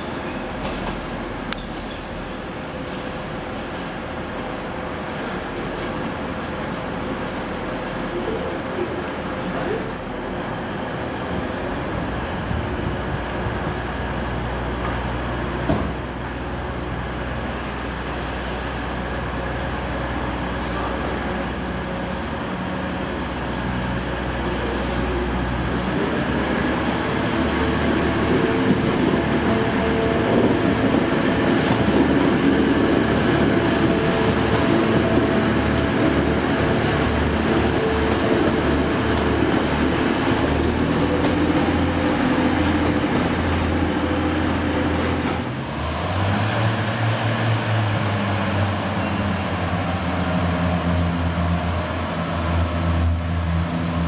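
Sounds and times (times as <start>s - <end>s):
diesel railbus engine drone: 0.0s - 54.0s
diesel train pulling away: 0.0s - 54.0s
train wheels on rails: 0.0s - 54.0s.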